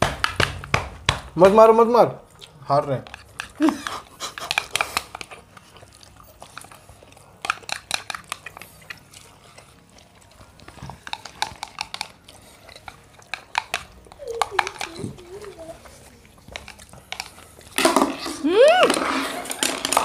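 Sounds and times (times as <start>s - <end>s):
chewing noodles with smacks: 2.2s - 20.0s.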